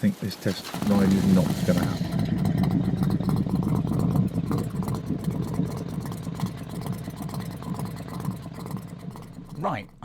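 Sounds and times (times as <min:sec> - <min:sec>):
vehicle engine running low revs: 0:00.4 - 0:10.0.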